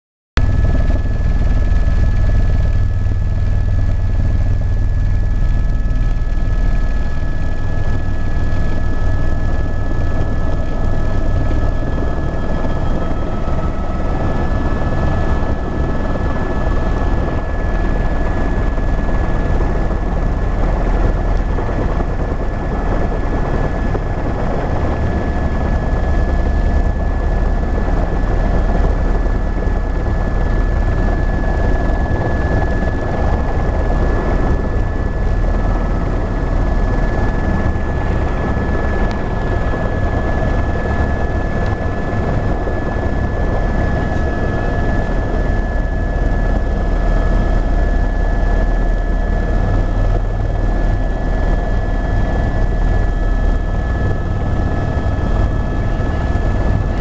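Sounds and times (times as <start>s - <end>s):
helicopter engine and rotor drone: 0.4s - 57.0s
lower whine: 0.4s - 57.0s.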